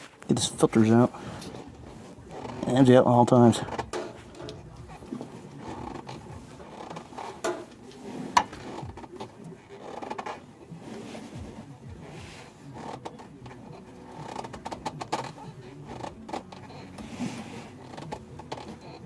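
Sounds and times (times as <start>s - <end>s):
rustling of things handled: 0.0s - 19.0s.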